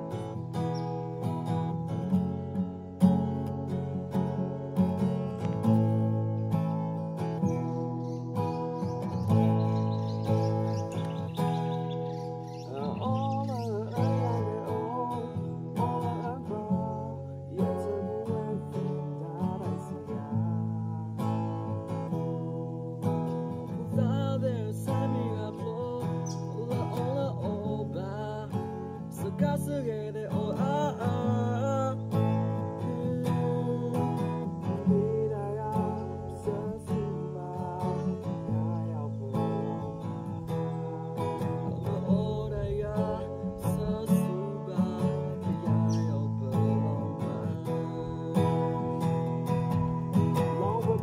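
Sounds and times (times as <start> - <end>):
strummed acoustic guitar: 0.0 - 51.0
man singing: 7.1 - 51.0.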